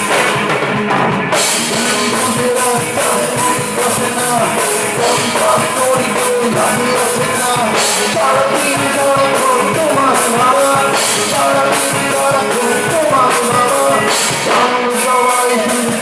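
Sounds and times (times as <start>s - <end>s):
drum kit with cymbals: 0.0s - 16.0s
electric guitars: 0.0s - 16.0s
person singing: 0.8s - 16.0s.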